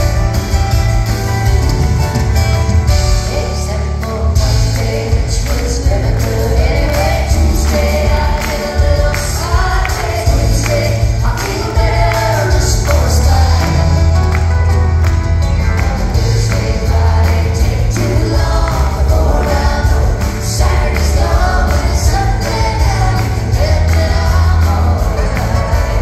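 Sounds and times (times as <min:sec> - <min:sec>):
drums: 0:00.0 - 0:26.0
woman singing: 0:03.0 - 0:14.4, 0:16.0 - 0:26.0.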